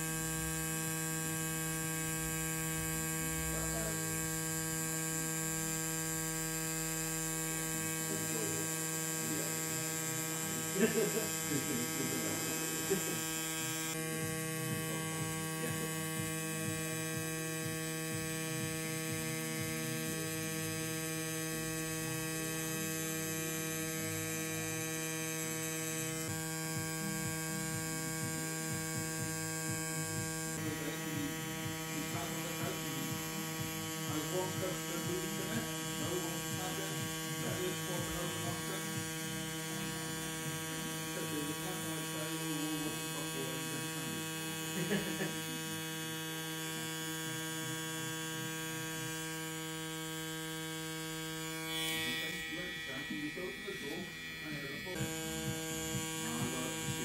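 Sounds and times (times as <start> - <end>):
tattoo machine humming: 0.0 - 57.0.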